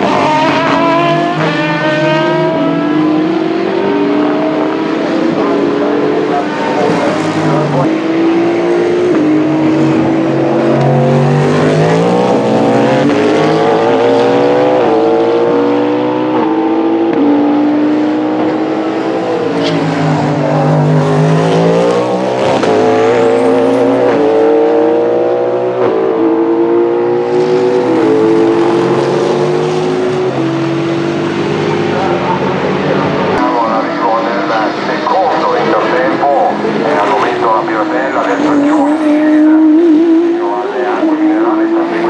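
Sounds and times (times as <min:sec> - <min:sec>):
race car engines at full throttle: 0:00.0 - 0:42.0.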